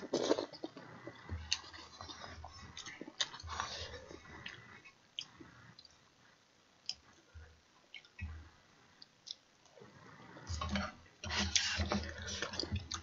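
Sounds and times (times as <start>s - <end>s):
soft wet chewing: 0.0s - 6.0s, 6.8s - 13.0s.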